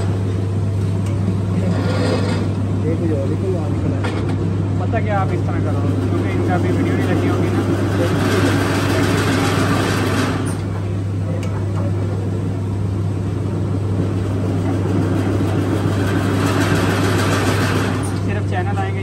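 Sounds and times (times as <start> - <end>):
press motor humming: 0.0 - 19.0.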